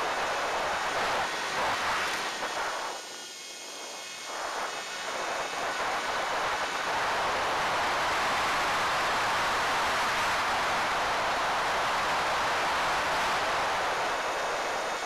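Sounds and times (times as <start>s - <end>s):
rushing airflow noise: 0.0s - 15.0s.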